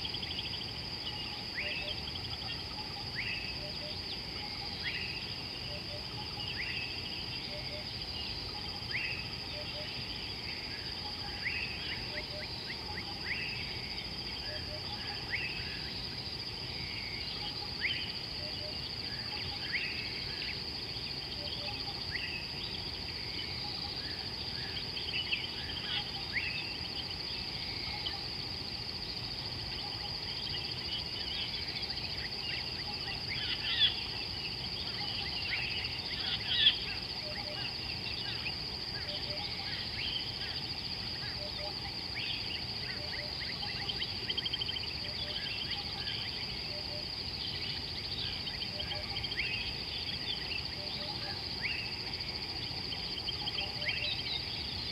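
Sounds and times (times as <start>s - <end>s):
high insect drone: 0.0s - 54.9s.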